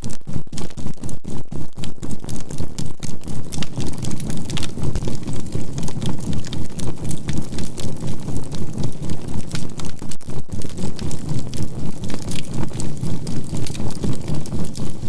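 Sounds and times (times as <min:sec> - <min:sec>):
campfire crackling: 0:02.3 - 0:15.0.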